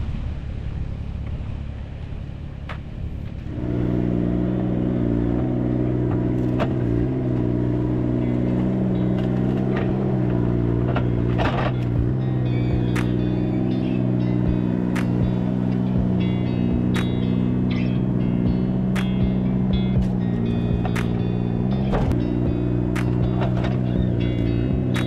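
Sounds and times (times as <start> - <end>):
low rumble: 0.0 - 5.0, 7.7 - 25.0
vehicle engine running: 0.0 - 25.0.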